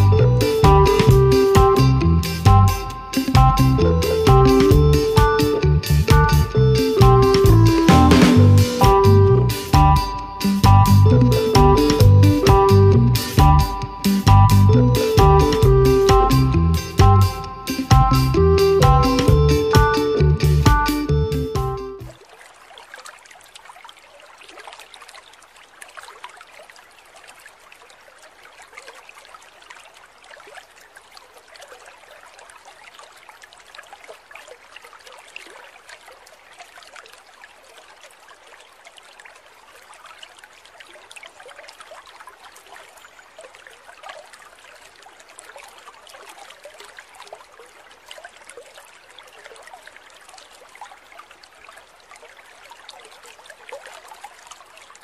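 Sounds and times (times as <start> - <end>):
aquarium water trickling and bubbling: 0.0 - 20.8, 21.5 - 55.0.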